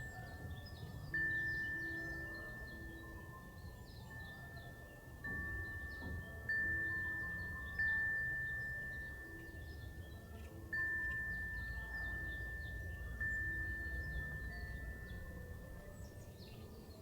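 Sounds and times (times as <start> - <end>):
wind chime bell ringing: 0.0 - 17.0.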